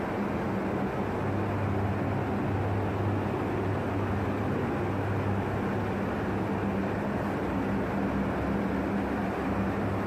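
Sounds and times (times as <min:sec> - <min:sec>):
rush of moving air: 0:00.0 - 0:10.0
ventilation machine hum: 0:00.0 - 0:10.0.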